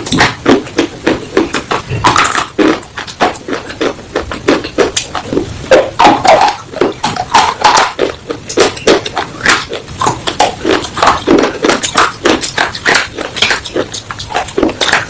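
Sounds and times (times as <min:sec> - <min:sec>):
crunching and chewing slate: 0:00.0 - 0:15.0.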